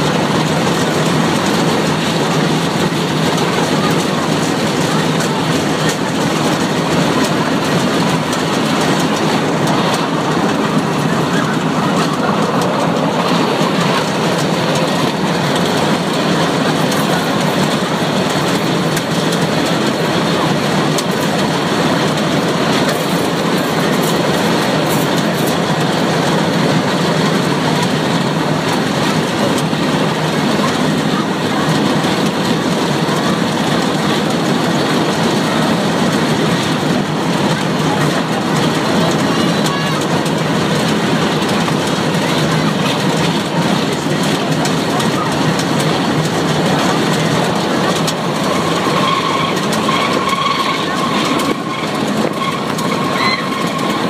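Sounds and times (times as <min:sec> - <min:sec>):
train wheels on rail: 0:00.0 - 0:54.0.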